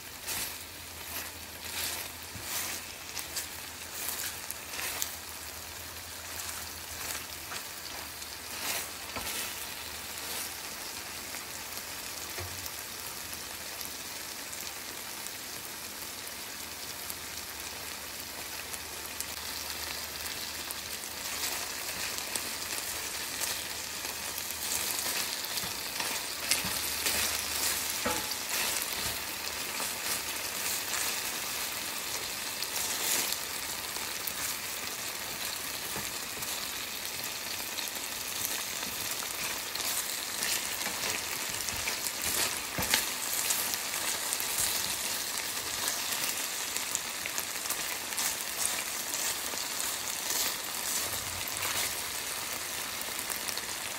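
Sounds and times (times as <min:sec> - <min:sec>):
spatula stirring in pan: 0:00.0 - 0:12.5, 0:19.4 - 0:53.9
meat sizzling in oil: 0:00.0 - 0:53.9.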